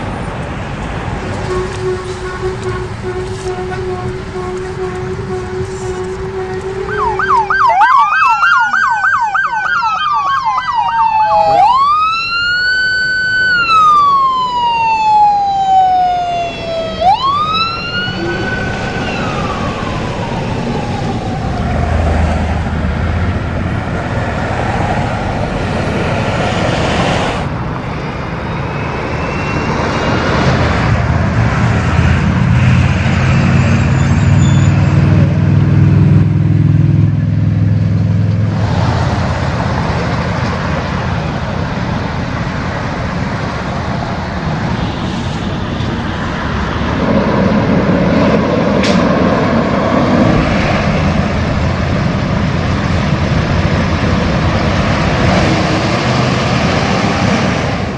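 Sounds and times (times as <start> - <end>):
diesel truck engine rumble: 0.0 - 10.3, 11.0 - 57.9
traffic noise: 0.0 - 57.9
police siren: 1.2 - 37.8, 38.5 - 57.9.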